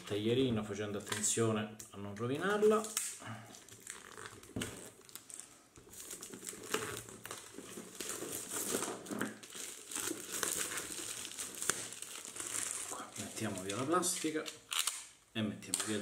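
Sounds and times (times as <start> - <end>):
plastic shrink-wrap crinkling: 2.2 - 16.0.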